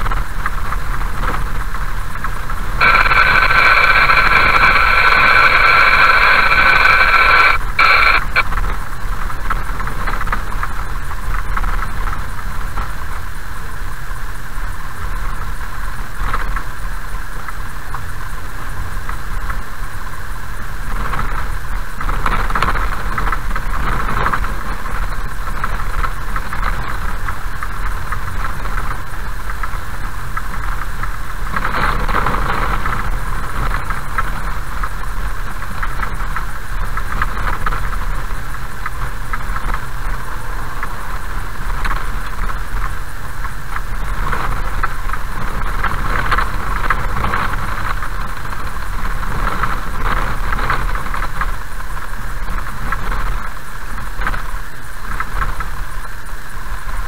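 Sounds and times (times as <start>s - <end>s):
car engine and tyre rumble: 0.0s - 4.4s, 7.6s - 57.0s
gravel crackling under tyres: 0.0s - 57.0s.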